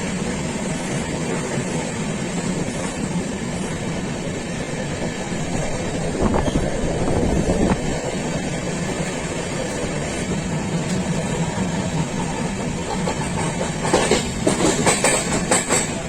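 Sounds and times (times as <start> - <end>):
train knocks and clatter: 0.0 - 16.0
train wheels rumbling on rails: 0.0 - 16.0.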